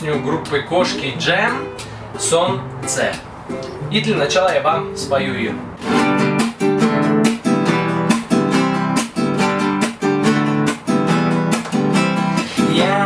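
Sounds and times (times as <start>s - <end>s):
nylon-string guitar strumming: 0.0s - 13.0s.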